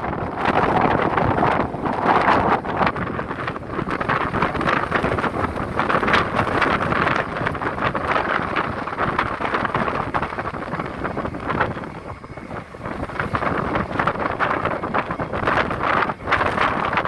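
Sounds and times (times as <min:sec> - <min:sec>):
storm wind gusting on microphone: 0:00.0 - 0:17.0.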